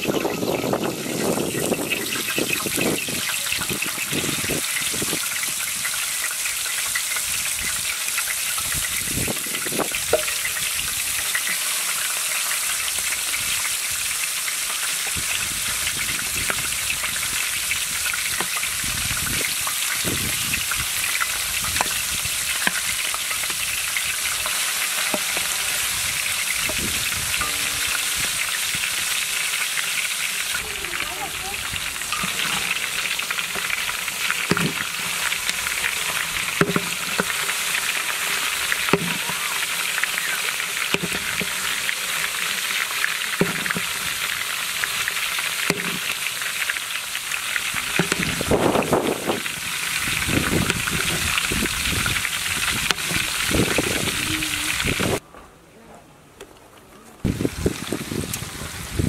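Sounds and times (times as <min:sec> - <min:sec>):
meat sizzling in hot oil: 0:00.0 - 0:55.2, 0:57.3 - 0:59.0
oil popping and crackling: 0:00.0 - 0:55.2, 0:57.2 - 0:59.0.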